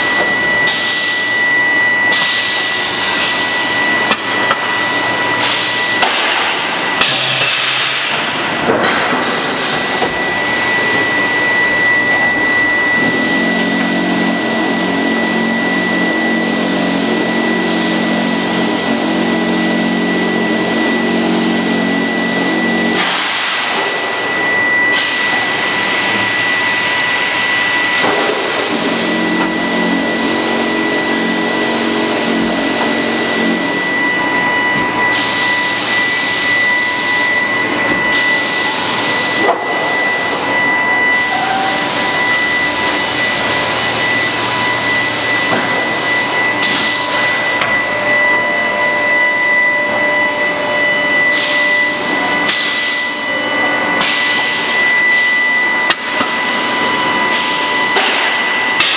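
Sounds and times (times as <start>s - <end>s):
deep multi-tone hum: 0.0s - 58.9s
high machine whine: 0.0s - 58.9s
production line machinery running: 0.0s - 58.9s.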